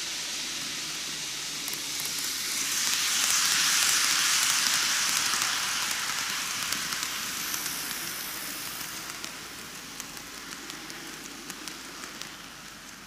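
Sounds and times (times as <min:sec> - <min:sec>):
model train wheels and motor hiss: 0:00.0 - 0:13.0
wheels clicking on track: 0:00.2 - 0:13.0.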